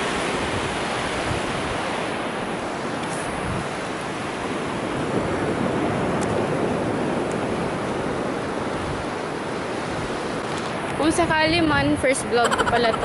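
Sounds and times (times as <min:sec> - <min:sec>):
waves breaking on beach: 0:00.0 - 0:11.6.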